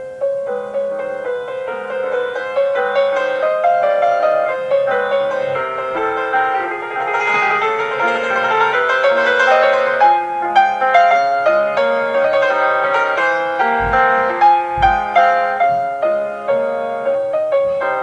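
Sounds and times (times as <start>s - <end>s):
solo piano classical piece: 0.0s - 18.0s.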